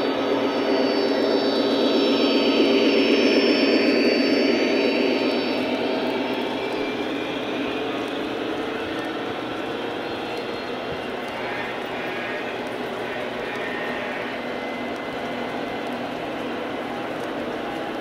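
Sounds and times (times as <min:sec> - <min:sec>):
model train wheels rumbling on track: 0:00.3 - 0:18.0.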